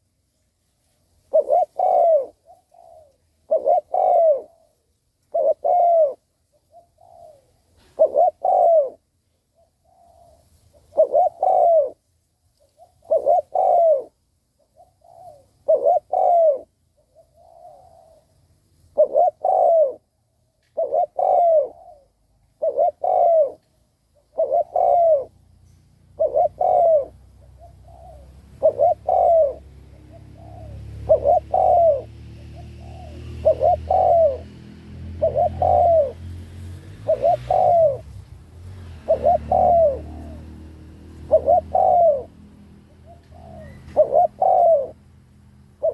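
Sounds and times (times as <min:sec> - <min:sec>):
dove cooing: 0:01.2 - 0:12.0, 0:12.6 - 0:45.9.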